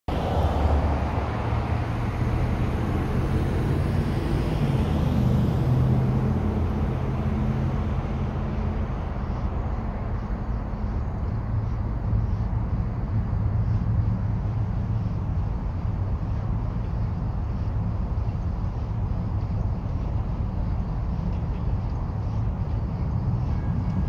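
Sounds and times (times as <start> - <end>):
low engine drone: 0.1 - 24.0.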